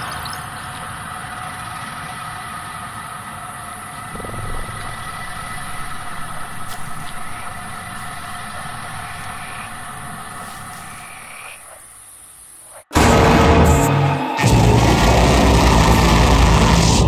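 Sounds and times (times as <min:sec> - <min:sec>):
dark ambient drone: 0:00.0 - 0:17.0.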